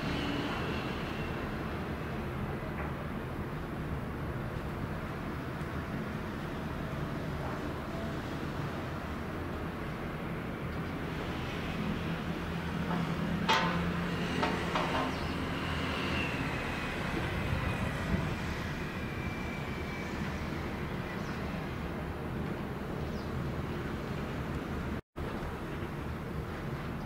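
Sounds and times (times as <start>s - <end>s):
ship engine rumble: 0.0s - 27.0s.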